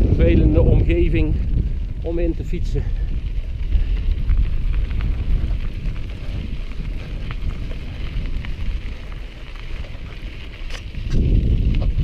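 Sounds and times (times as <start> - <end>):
tyres ticking on gravel: 0.0 - 12.0
wind buffeting the microphone: 0.0 - 12.0.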